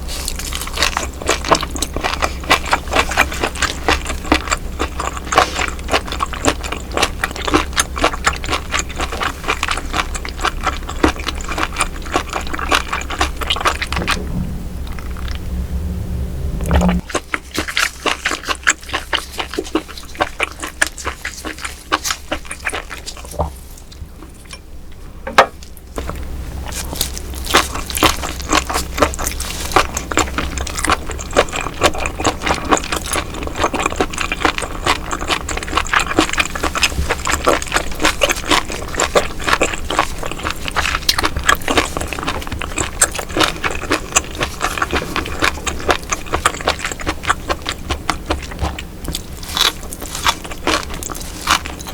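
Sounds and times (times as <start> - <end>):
close chewing mouth clicks: 0.0 - 14.0, 17.1 - 24.0, 26.0 - 51.9.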